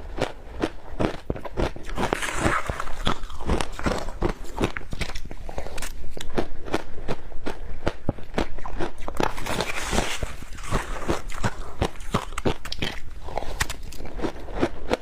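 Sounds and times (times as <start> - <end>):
ice crunching between teeth: 0.1 - 15.0.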